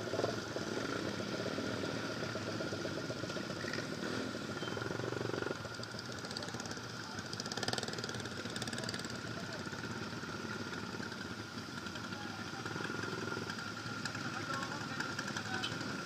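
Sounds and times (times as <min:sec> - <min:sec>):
motorcycle engines idling: 0:00.0 - 0:16.0.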